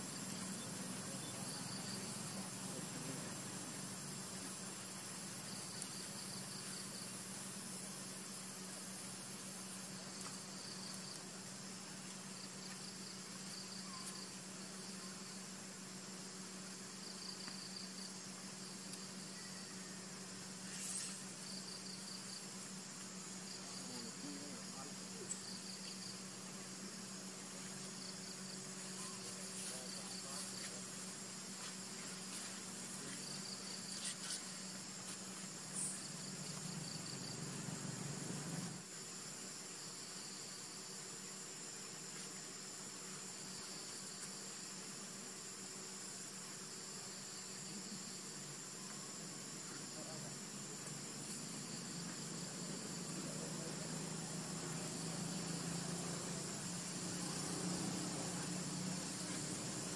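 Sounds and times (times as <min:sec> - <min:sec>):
faint low hum: 0:00.0 - 0:59.9
insects trilling: 0:00.0 - 0:59.9
steady high hiss: 0:00.0 - 0:59.9.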